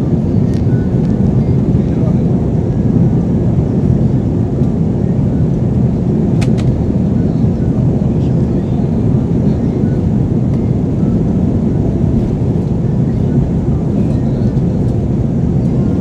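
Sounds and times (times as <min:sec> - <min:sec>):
airliner engine rumble: 0:00.0 - 0:16.0.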